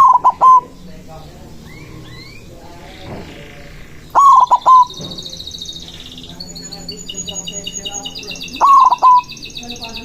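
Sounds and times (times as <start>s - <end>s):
dove cooing: 0.0s - 10.0s
small birds chirping: 0.0s - 10.0s.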